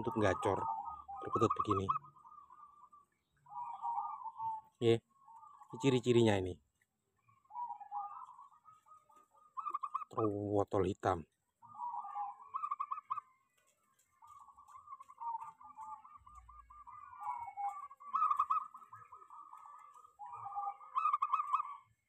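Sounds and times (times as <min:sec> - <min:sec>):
birds trilling: 0:00.0 - 0:22.0.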